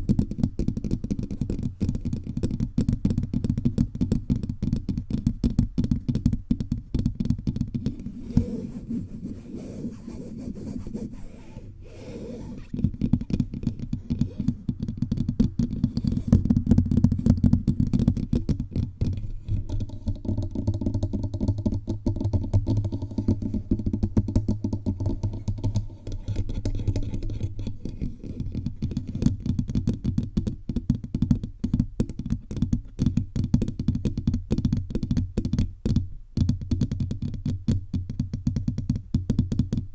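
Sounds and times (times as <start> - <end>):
fingertips tapping on microphone: 0.0 - 39.8.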